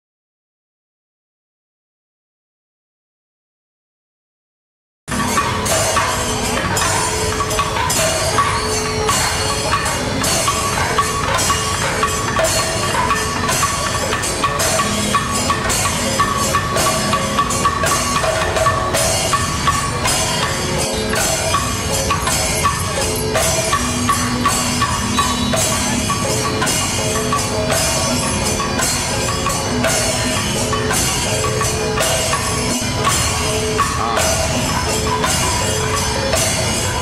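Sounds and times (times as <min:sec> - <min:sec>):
percussion music with drums: 0:05.1 - 0:37.0.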